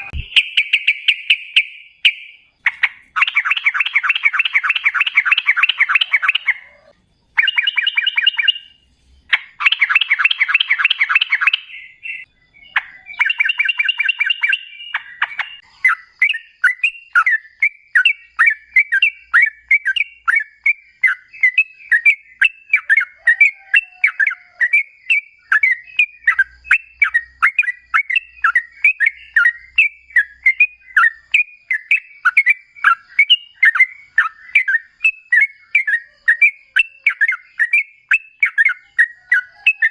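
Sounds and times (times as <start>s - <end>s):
bird singing bubbly notes: 0.0s - 39.9s.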